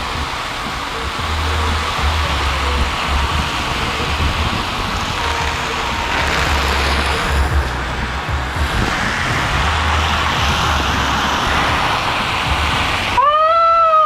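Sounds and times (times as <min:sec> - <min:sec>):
deep uneven rumble: 0:00.0 - 0:13.2
shower water spraying: 0:00.0 - 0:13.2.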